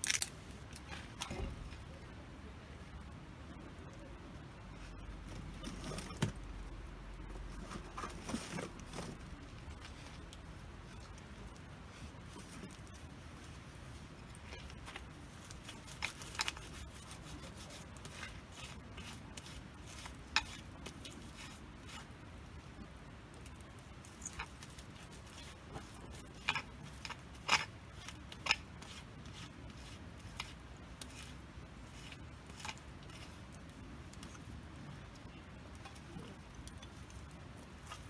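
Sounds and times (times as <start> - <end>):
campfire crackling and popping: 0.0 - 2.0, 2.9 - 38.0
low steady hiss: 0.0 - 38.0.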